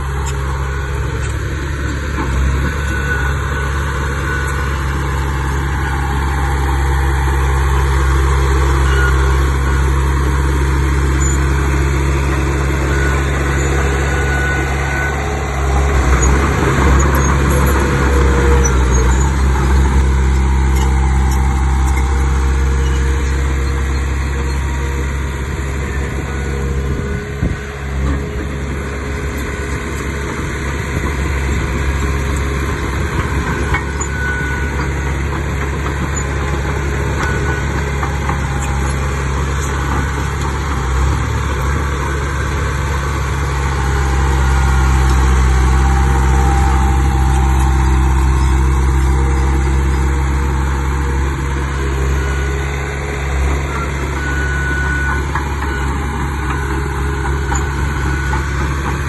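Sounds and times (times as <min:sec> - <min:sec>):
heavy diesel machinery drone: 0:00.0 - 0:59.0.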